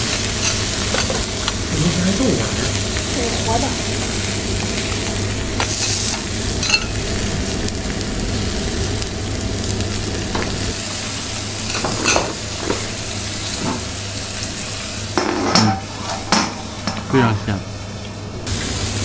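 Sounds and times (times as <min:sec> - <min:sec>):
lobster sizzling on griddle: 0:00.0 - 0:19.0.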